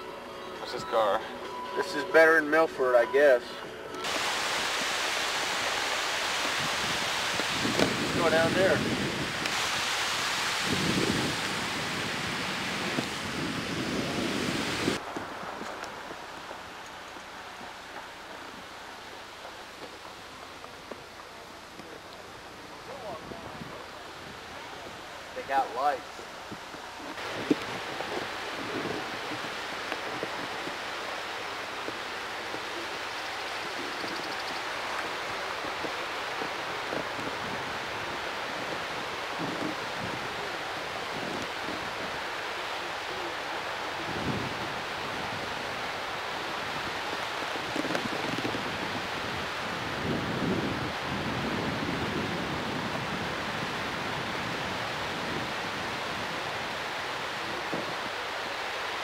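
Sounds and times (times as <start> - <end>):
water rushing below a dam: 4.0 - 59.0.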